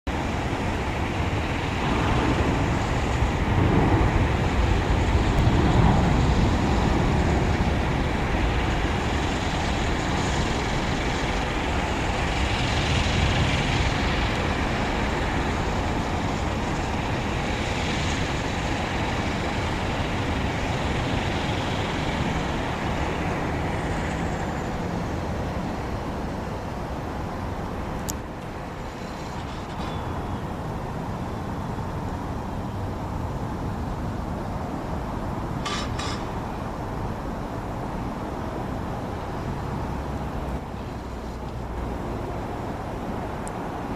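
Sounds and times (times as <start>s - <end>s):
jet engines rumbling: 0.1s - 43.9s.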